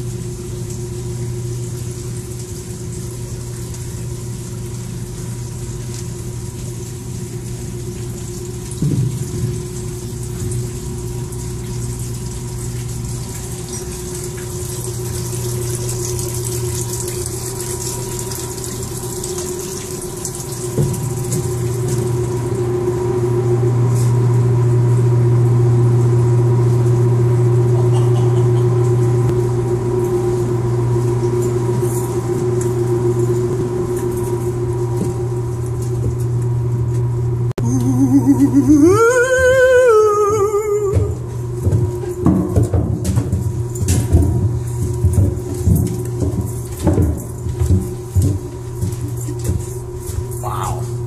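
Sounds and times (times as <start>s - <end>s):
deep machinery hum: 0.0s - 51.0s.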